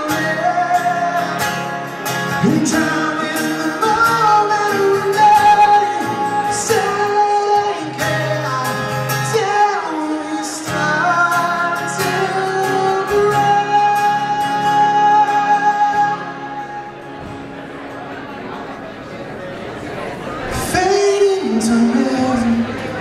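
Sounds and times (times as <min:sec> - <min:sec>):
man singing: 0:00.0 - 0:17.0, 0:20.5 - 0:23.0
acoustic guitar strumming: 0:00.0 - 0:23.0.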